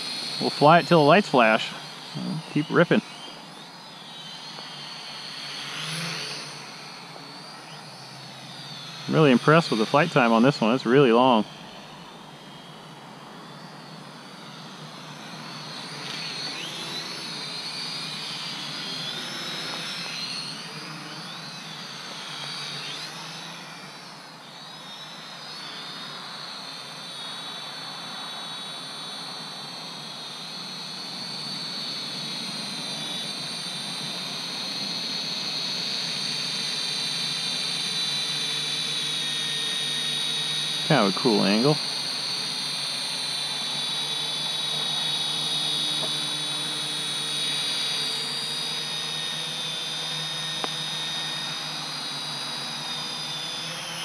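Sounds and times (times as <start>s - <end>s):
quadcopter propellers whining: 0.0s - 54.0s.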